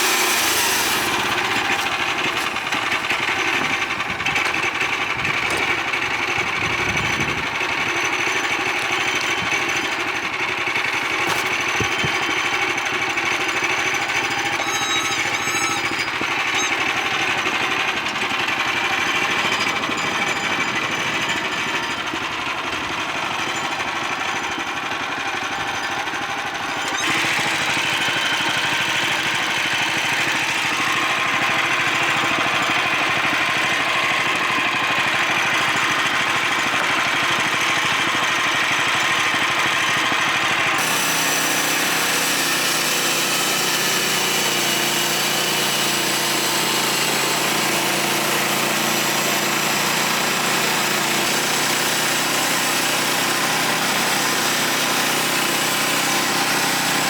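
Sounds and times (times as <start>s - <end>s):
band sawmill cutting log: 0.0s - 57.0s
gas engine under load: 0.0s - 57.0s.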